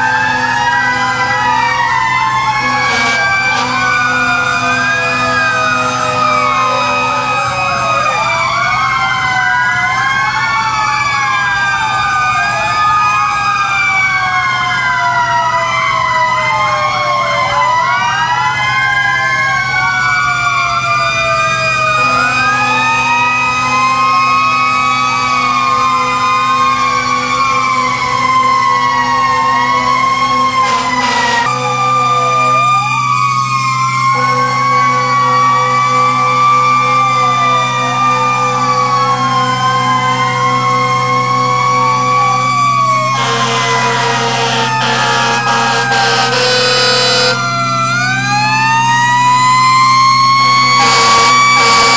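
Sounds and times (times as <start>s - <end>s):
fire engine sirens wailing: 0.0s - 51.9s.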